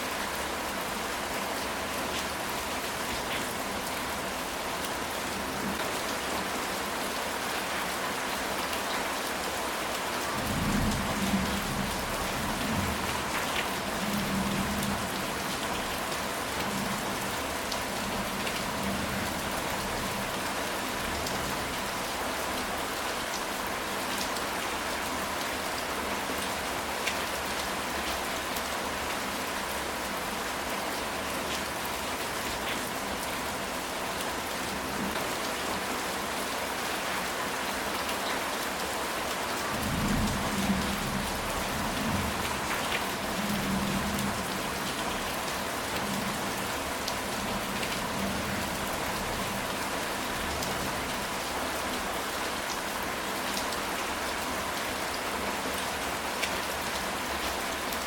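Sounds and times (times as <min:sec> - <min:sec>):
heavy rain on a tile roof: 0:00.0 - 0:58.0.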